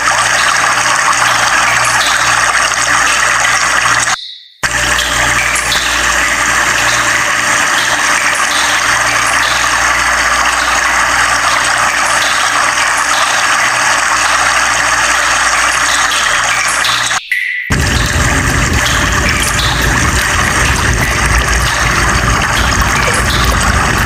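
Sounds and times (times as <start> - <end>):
flowing water rushing: 0.0 - 24.0
low steady hum: 1.1 - 24.0.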